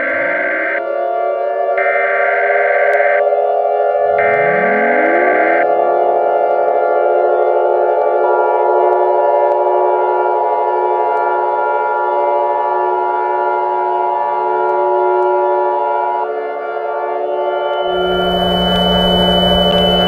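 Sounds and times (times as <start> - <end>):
civil defense siren: 0.0 - 20.0.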